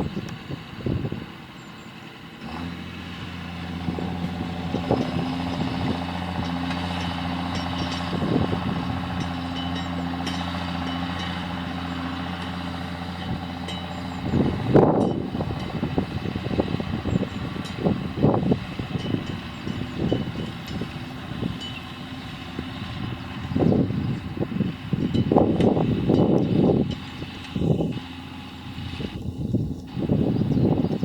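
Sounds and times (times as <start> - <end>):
wind buffeting microphone: 0.0 - 1.7, 2.6 - 31.0
tractor engine running: 0.0 - 31.0.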